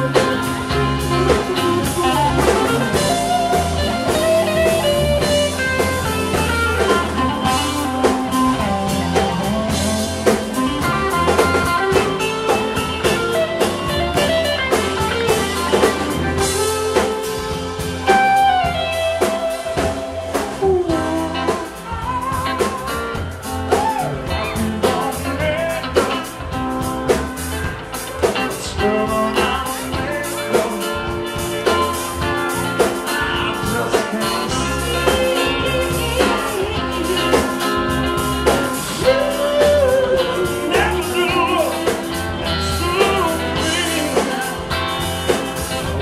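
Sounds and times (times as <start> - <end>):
blues-rock band playing: 0.0 - 46.0
sliding lead guitar line: 0.0 - 46.0.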